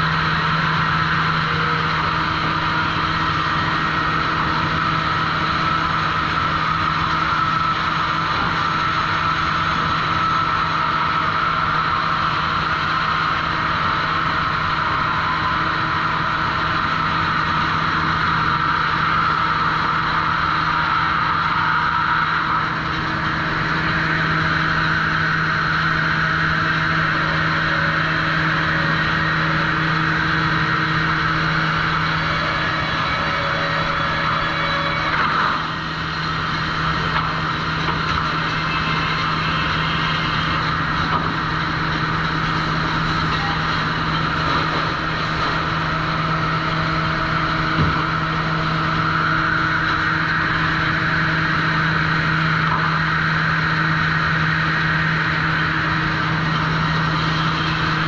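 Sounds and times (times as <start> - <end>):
saw machinery whine: 0.0 - 58.0.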